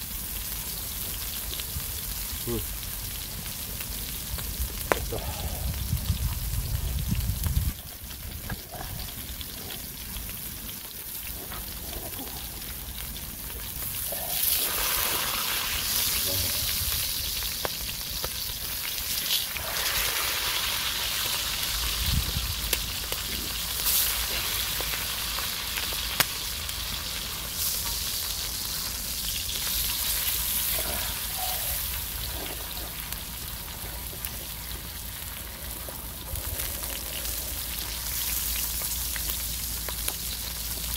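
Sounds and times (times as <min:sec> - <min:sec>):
meat sizzling on a grill: 0:00.0 - 0:40.9.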